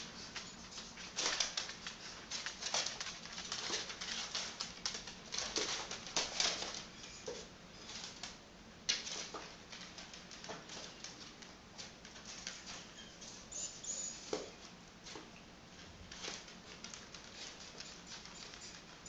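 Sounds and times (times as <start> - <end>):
paws clicking on wooden floor: 0.0 - 19.0.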